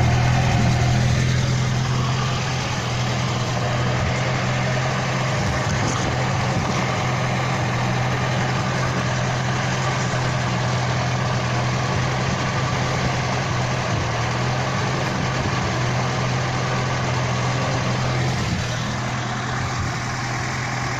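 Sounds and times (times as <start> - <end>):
car engine hum: 0.0 - 20.9
road noise: 0.0 - 20.9.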